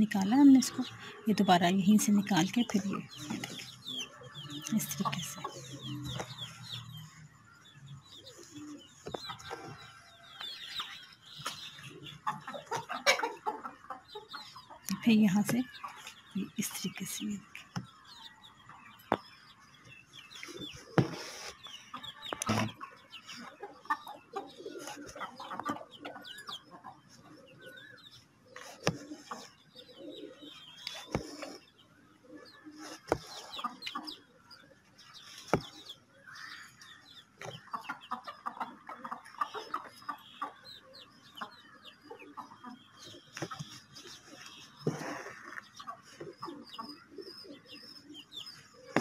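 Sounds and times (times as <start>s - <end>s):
falling bird chirps: 0.2s - 49.0s.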